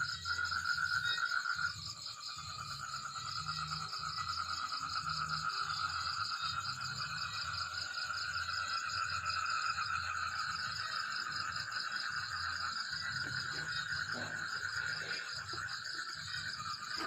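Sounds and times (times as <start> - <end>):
insects trilling: 0.0 - 17.0
low continuous insect tone: 0.0 - 17.0.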